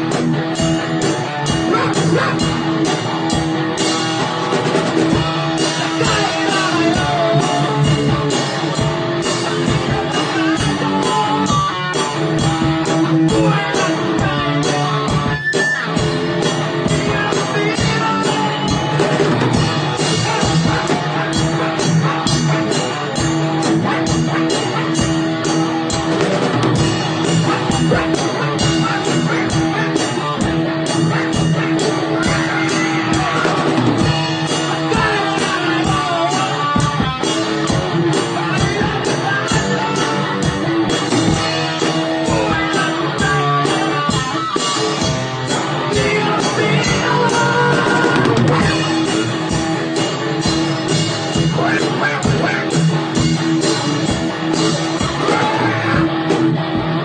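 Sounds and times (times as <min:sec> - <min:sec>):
rock music with singing: 0:00.0 - 0:57.0.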